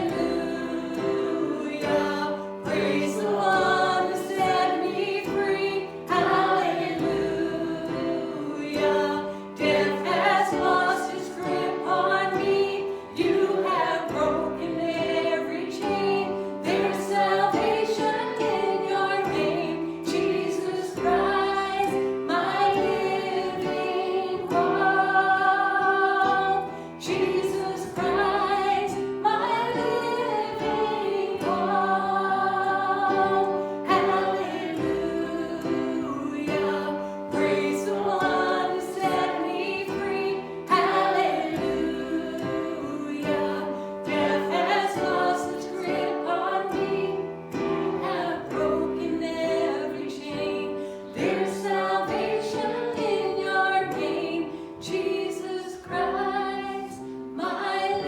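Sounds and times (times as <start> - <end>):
people singing a hymn: 0.0 - 58.0.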